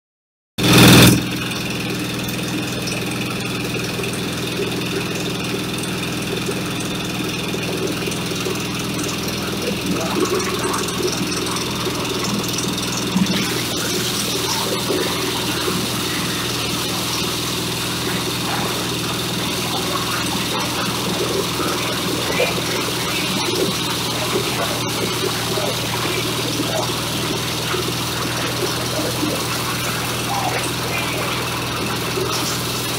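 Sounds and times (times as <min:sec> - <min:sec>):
diesel engine running: 0:00.6 - 0:32.9.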